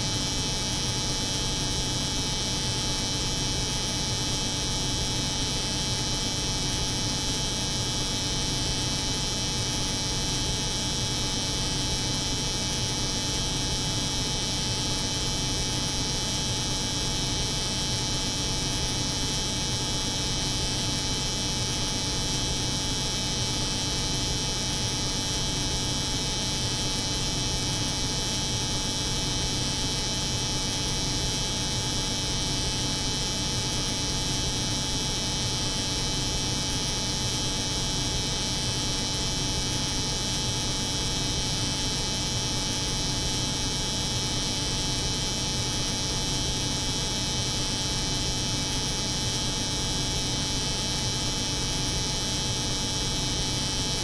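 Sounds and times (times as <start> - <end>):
refrigeration unit hum: 0.0 - 54.0.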